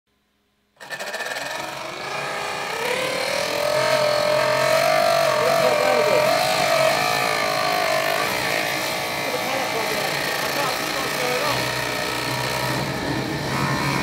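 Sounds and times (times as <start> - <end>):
electric motor whine: 0.8 - 14.0.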